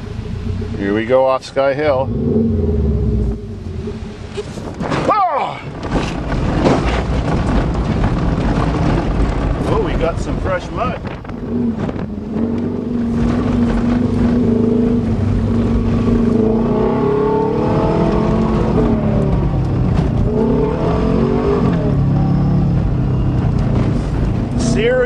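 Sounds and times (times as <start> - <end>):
car engine pulling under load: 0.0 - 25.0.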